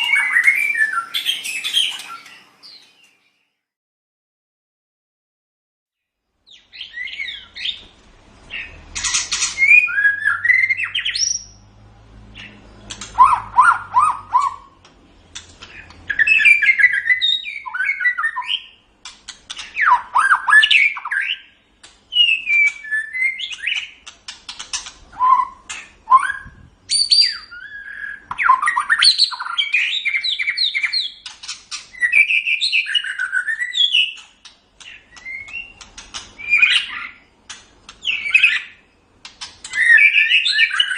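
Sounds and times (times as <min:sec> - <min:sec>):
bird singing varied song: 0:00.0 - 0:03.7, 0:06.3 - 0:40.9.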